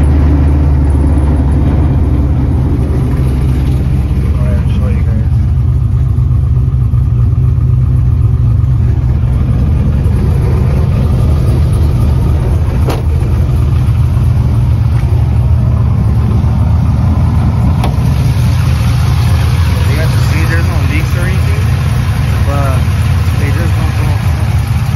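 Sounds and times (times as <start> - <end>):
truck engine idling: 0.0 - 24.9.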